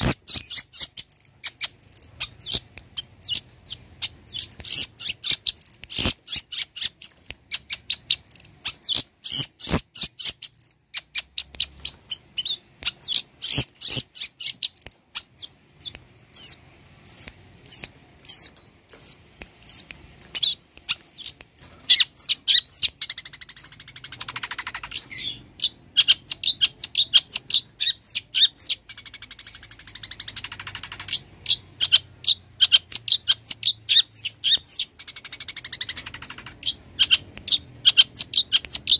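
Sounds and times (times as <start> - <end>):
bird singing chattering notes: 0.0 - 38.9.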